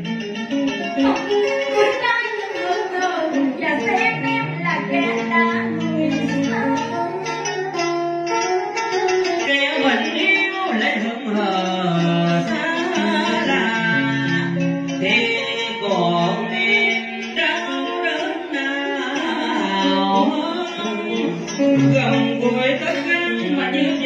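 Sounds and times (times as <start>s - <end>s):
plucked string melodies sliding: 0.0s - 24.0s.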